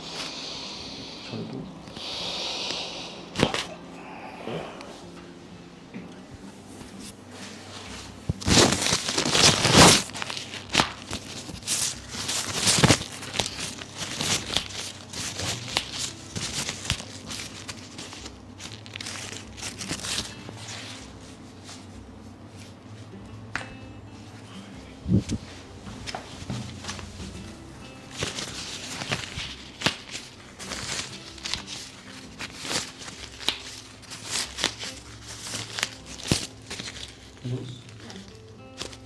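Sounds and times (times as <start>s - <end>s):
cloth and skin rustling: 6.3s - 23.2s, 24.1s - 39.0s.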